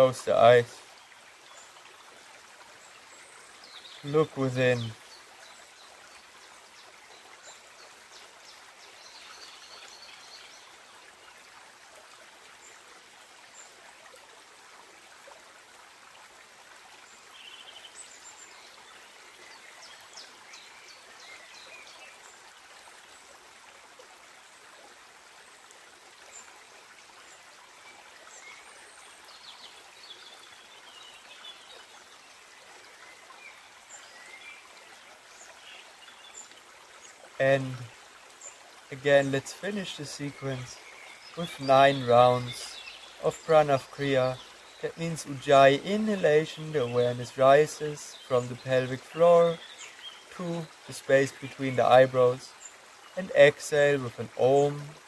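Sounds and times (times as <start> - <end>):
creek babbling: 0.0 - 55.0.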